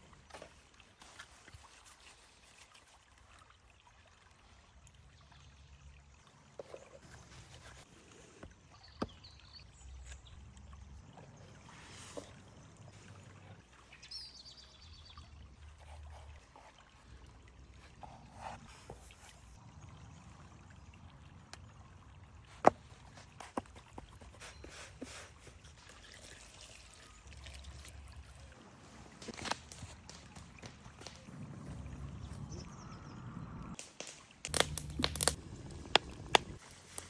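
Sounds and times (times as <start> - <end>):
faint trickling water: 0.0 - 37.0.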